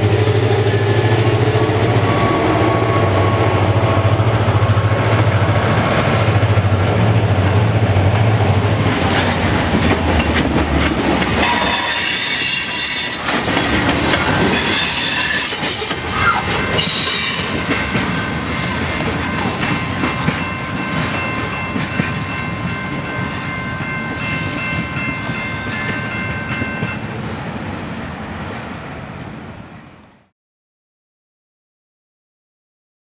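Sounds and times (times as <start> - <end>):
train wheels clattering on rails: 0.3 - 27.4.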